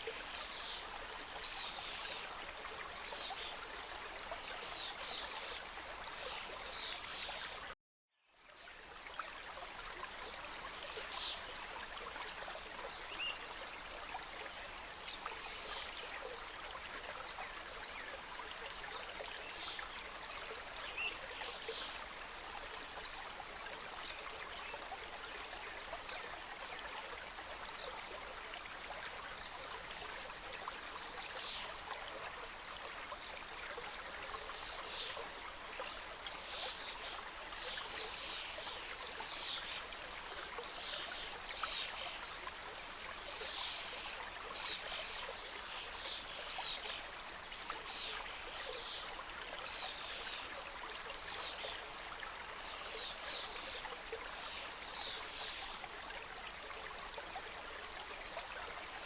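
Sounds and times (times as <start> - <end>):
stream flowing over rocks: 8.7 - 59.0.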